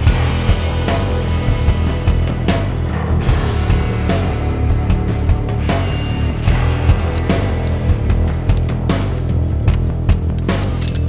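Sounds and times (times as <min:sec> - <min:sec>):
driving rock music: 0:00.0 - 0:11.0.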